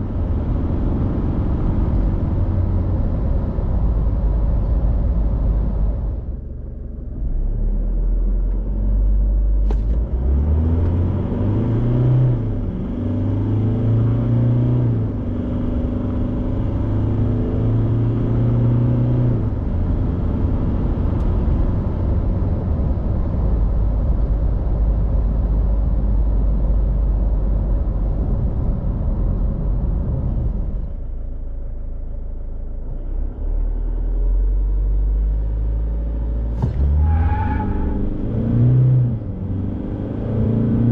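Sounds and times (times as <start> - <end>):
diesel engine accelerating: 0.0 - 40.9
road noise: 0.0 - 40.9.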